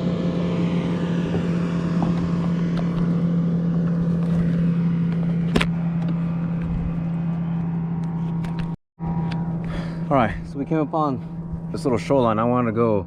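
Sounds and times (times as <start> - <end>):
small boat motor running: 0.0 - 12.5.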